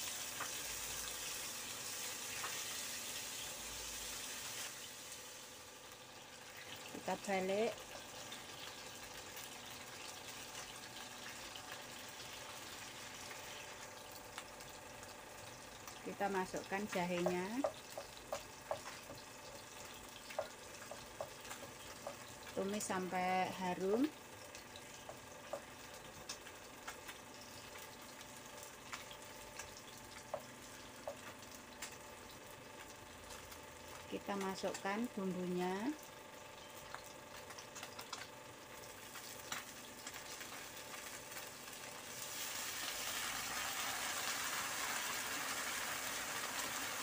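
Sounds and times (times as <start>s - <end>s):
fish frying in oil: 0.0s - 47.0s.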